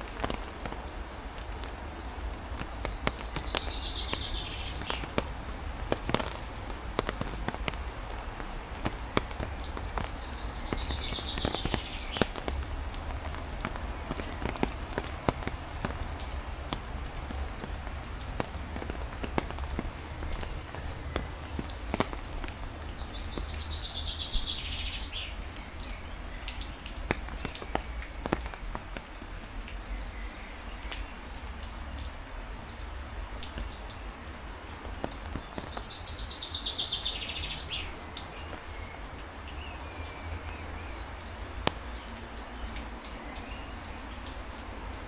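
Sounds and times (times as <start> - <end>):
heavy rain falling: 0.0 - 45.0
raindrops pattering close by: 0.0 - 45.0.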